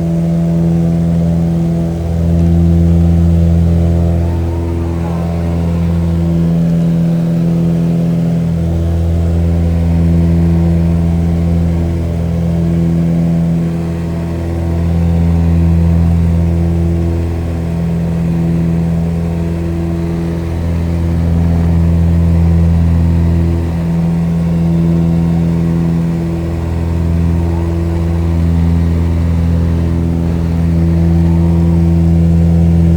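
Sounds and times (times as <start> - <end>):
propeller airplane engine drone: 0.0 - 32.9.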